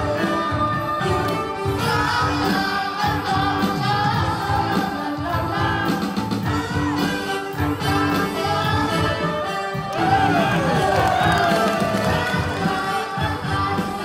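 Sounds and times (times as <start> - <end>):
band with a steady beat: 0.0 - 14.0
person singing: 0.0 - 14.0.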